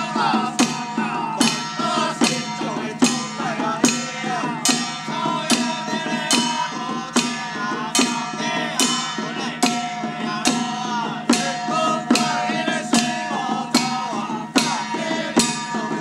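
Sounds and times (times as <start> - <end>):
hand drums beating slowly: 0.0 - 16.0
men chanting: 0.0 - 16.0.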